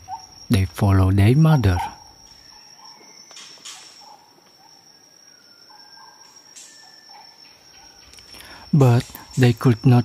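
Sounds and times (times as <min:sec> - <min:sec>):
high-pitched insect trill: 0:00.0 - 0:10.0.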